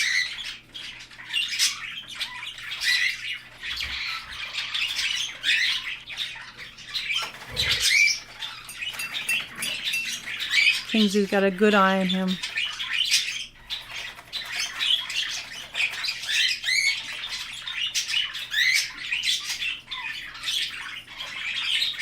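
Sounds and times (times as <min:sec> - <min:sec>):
budgies chattering and squawking: 0:00.0 - 0:22.0.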